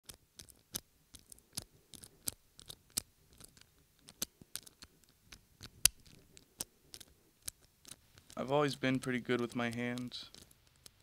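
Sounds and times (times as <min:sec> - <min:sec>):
sharp clicks: 0:00.1 - 0:11.0.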